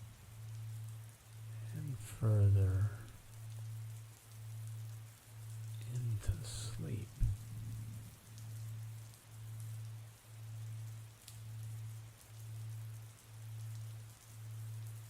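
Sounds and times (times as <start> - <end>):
low pulsing hum: 0.0 - 15.0
raindrop ticks: 0.0 - 15.0
soft rain: 0.0 - 15.0.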